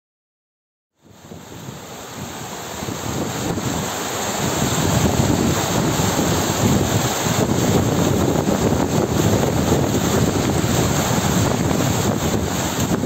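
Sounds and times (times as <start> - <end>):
stream rushing over rocks: 1.0 - 13.0.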